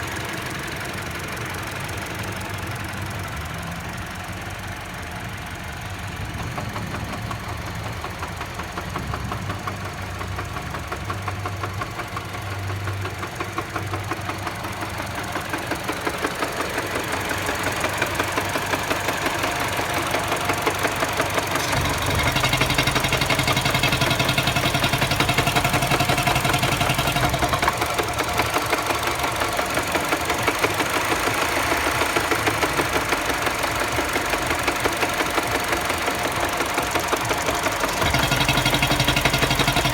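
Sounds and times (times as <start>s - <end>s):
car engine knocking: 0.0s - 39.9s.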